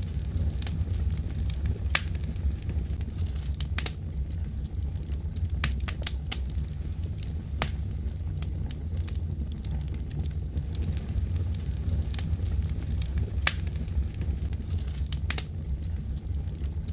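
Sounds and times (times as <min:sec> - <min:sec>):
fire crackling: 0:00.0 - 0:16.9
low rumble: 0:00.0 - 0:16.9.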